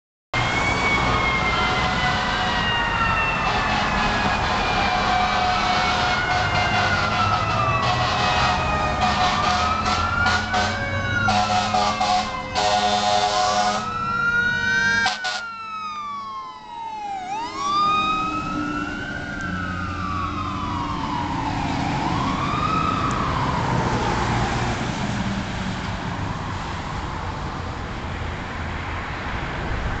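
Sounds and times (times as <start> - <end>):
fire engine wail siren: 0.4 - 28.0
road noise: 0.4 - 30.0.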